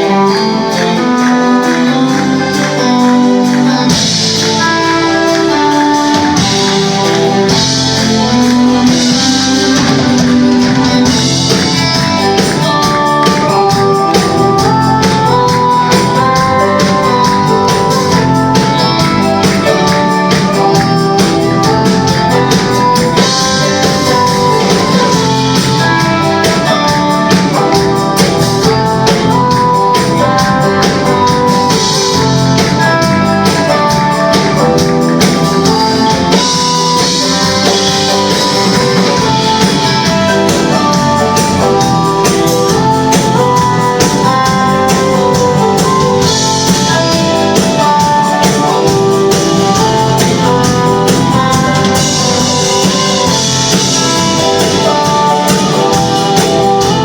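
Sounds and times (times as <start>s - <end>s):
guitar melody: 0.0s - 57.0s
steady drum beat: 0.0s - 57.0s
tambourine: 0.0s - 57.0s.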